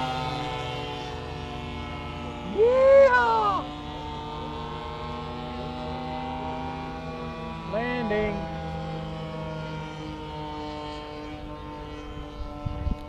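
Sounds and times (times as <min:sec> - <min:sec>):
model airplane engines running: 0:00.0 - 0:13.0.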